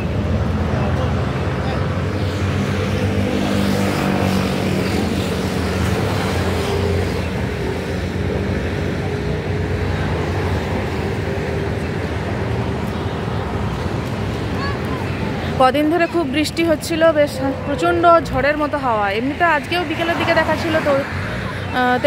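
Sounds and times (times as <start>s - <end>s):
traffic engines humming: 0.0s - 22.0s.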